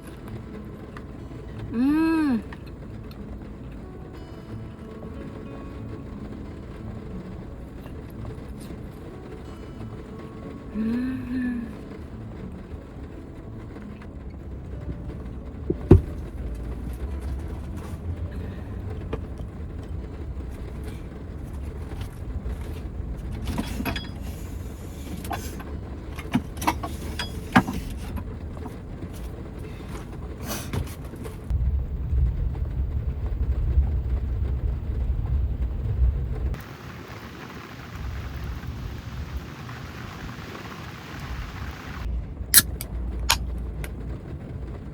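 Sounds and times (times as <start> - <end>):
heavy rain on van roof: 0.0 - 44.9.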